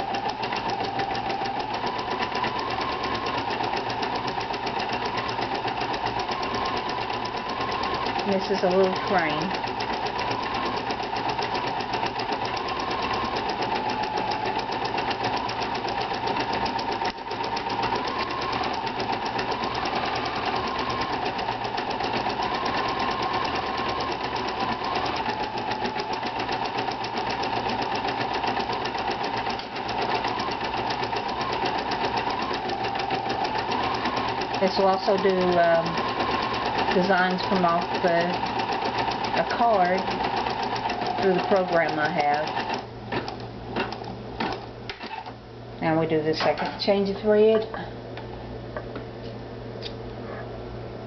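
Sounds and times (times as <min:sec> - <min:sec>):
sewing machine needle strokes: 0:00.0 - 0:45.3
sewing machine motor whine: 0:00.0 - 0:45.4.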